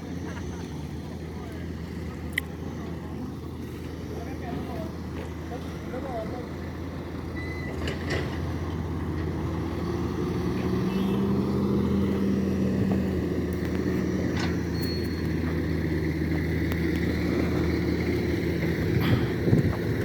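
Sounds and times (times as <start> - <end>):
large engine running: 0.0 - 20.0.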